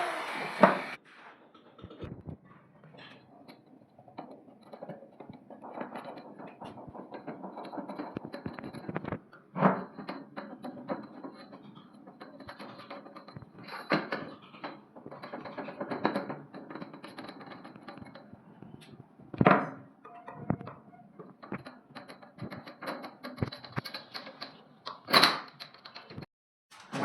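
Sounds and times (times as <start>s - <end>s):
hard objects tapping and scraping: 0.0s - 27.0s.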